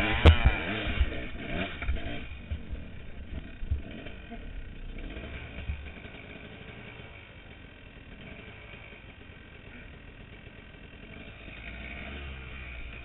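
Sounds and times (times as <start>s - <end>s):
dirt bike engine idling: 0.0s - 13.0s.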